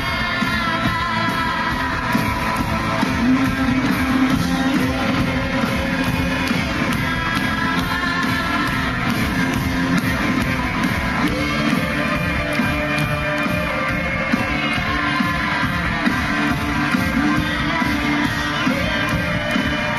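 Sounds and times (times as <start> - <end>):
live pop-rock band playing: 0.0 - 19.9.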